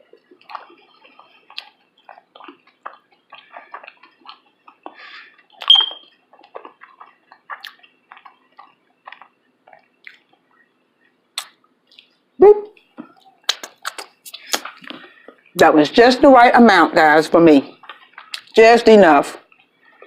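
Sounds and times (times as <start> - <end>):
chewing with wet mouth clicks: 0.0 - 12.2, 12.8 - 15.5, 17.8 - 18.6, 19.4 - 20.0.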